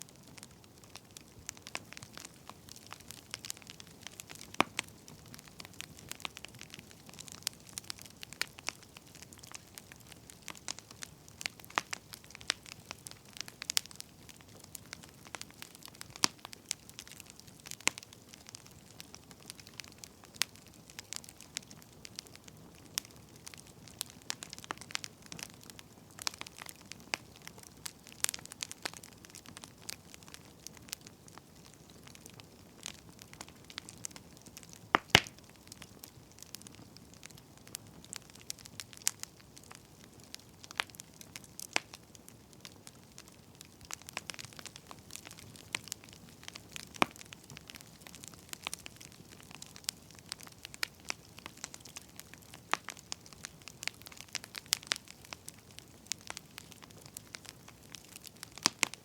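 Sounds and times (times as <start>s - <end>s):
firewood crackling and popping: 0.0s - 59.0s
soft steady hiss: 0.0s - 59.0s.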